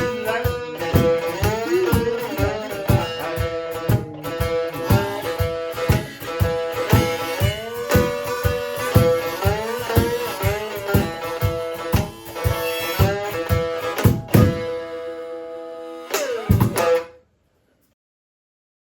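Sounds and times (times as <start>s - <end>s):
cajon beating: 0.0s - 15.0s, 16.2s - 17.1s
one-string slide instrument blues: 0.0s - 17.2s.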